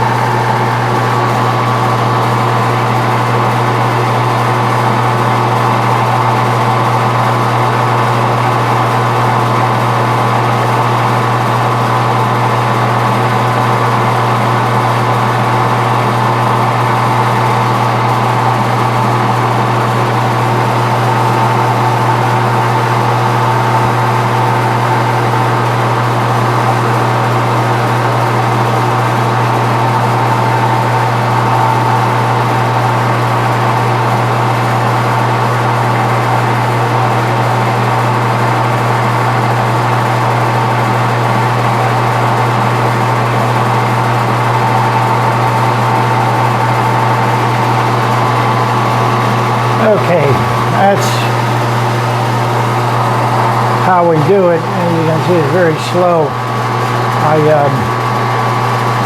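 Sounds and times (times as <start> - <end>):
lathe motor hum and whine: 0.0 - 59.0.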